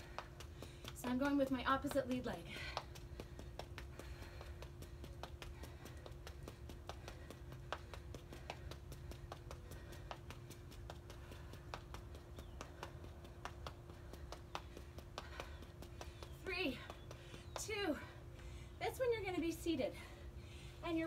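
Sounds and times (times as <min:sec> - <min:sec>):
sneakers tapping on concrete: 0:00.0 - 0:18.2.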